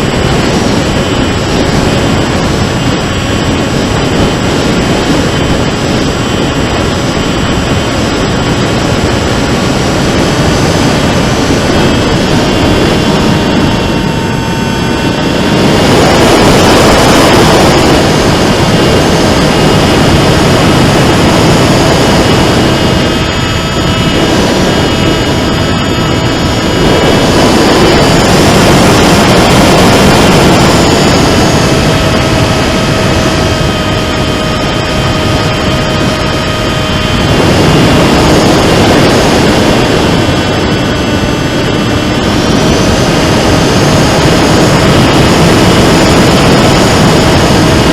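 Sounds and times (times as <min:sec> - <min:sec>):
motor and propeller whining: 0:00.0 - 0:47.9
wind rushing over microphone: 0:00.0 - 0:47.9.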